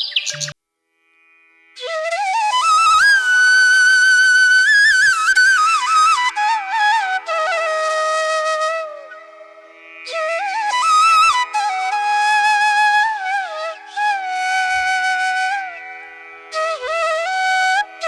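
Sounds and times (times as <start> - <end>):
solo flute slow melody: 1.8 - 18.0.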